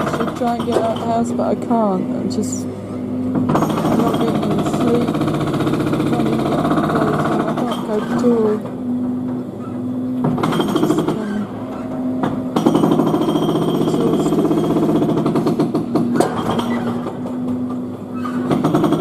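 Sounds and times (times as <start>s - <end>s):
jackhammer hammering: 0.0s - 1.9s, 3.3s - 9.4s, 10.2s - 19.0s
steady hum: 0.0s - 16.2s.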